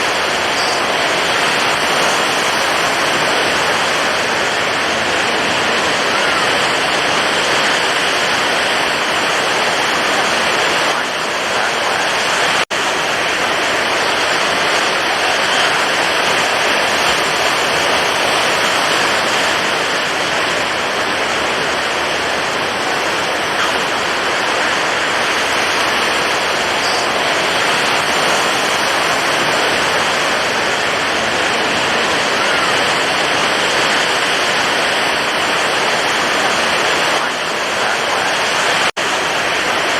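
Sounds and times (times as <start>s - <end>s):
stormy ocean waves breaking: 0.0s - 39.9s.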